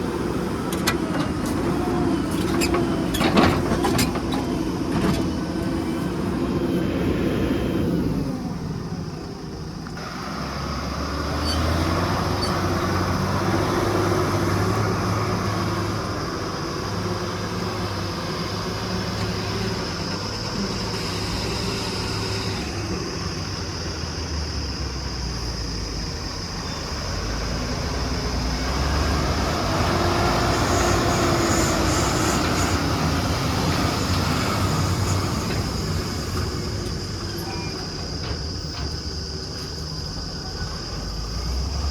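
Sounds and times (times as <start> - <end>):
backhoe diesel engine working: 0.0 - 41.9.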